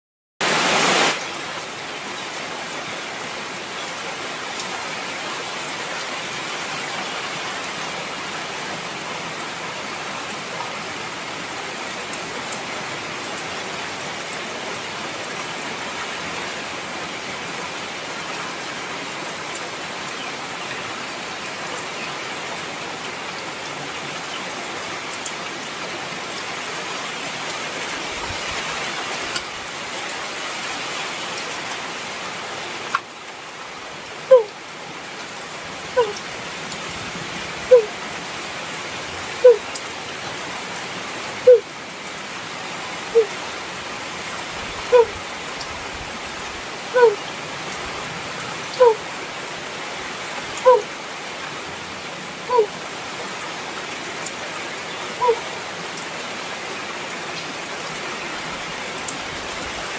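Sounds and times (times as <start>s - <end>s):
heavy rain falling: 0.4s - 59.9s.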